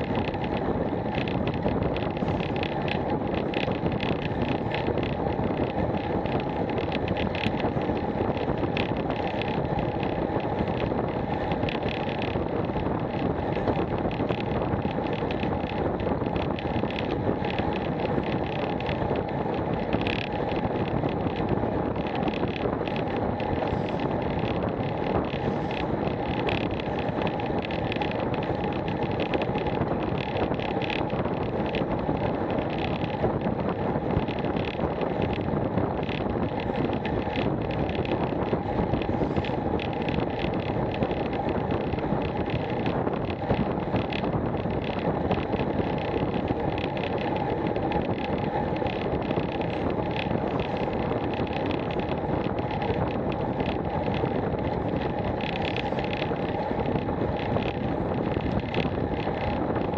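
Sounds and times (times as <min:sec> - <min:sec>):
small clicks and rattles: 0:00.0 - 0:59.9
tyre noise on tarmac: 0:00.0 - 0:59.9
wind rushing over microphone: 0:00.0 - 0:59.9.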